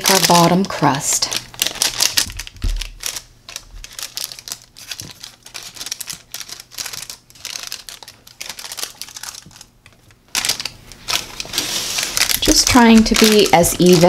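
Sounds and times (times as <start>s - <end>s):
parchment paper crinkling: 0.0s - 14.0s.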